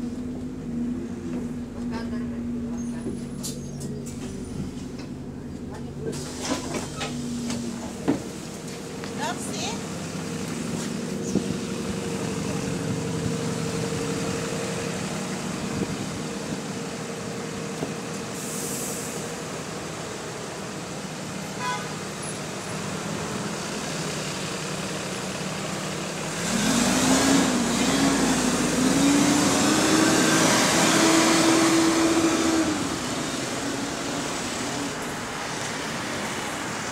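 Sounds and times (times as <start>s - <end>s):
bus engine and fan running: 0.0s - 36.9s.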